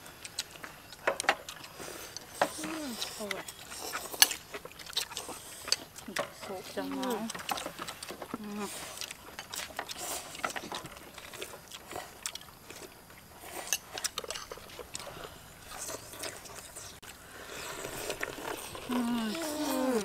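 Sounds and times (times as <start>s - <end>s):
people chewing: 0.0s - 20.0s.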